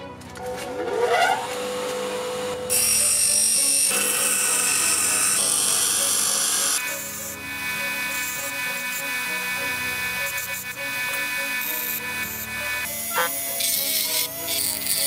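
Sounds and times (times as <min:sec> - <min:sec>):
bench grinder motor whining: 0:00.6 - 0:15.0
knife blade grinding on wheel: 0:02.7 - 0:15.0.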